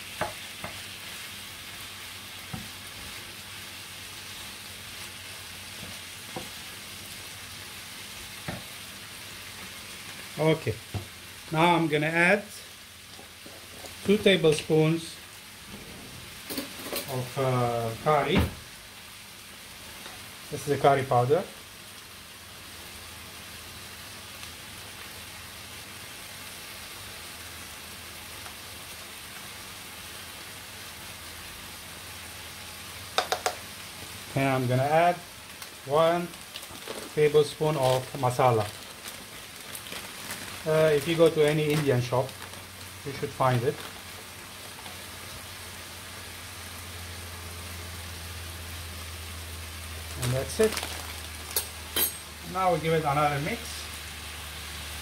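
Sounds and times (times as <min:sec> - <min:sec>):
chicken sizzling in a pan: 0:00.0 - 0:55.0.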